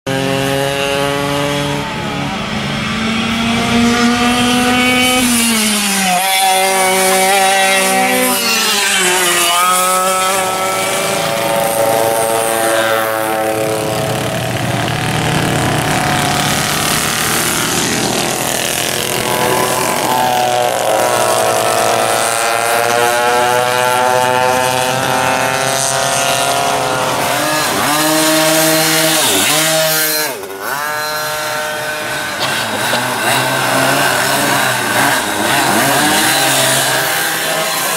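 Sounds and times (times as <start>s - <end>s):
go-kart engines revving: 0.0s - 37.9s.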